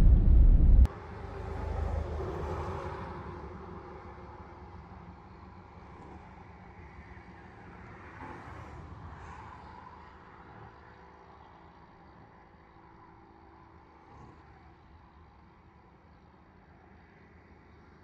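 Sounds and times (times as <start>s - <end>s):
car and road noise: 0.0s - 18.0s.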